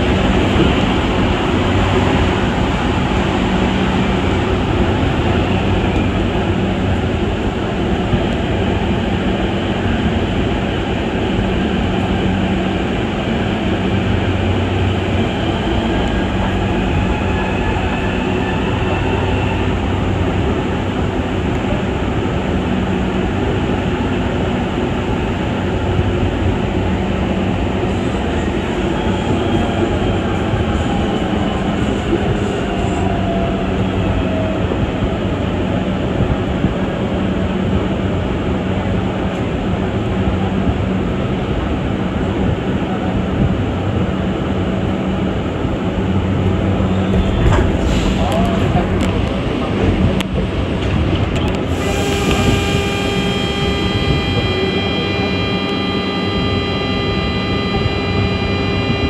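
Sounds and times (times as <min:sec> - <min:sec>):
train rumble on board: 0:00.0 - 0:59.0.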